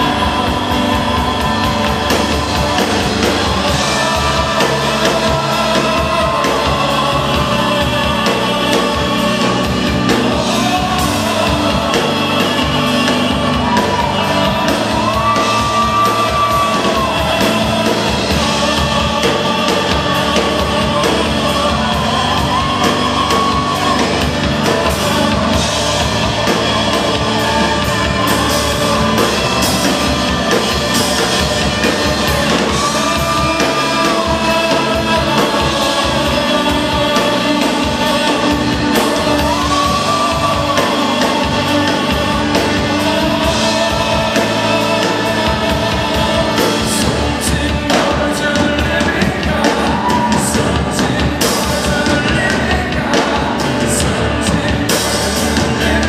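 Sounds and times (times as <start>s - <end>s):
instrumental accompaniment: 0.0s - 56.0s
man singing long held notes: 0.0s - 56.0s.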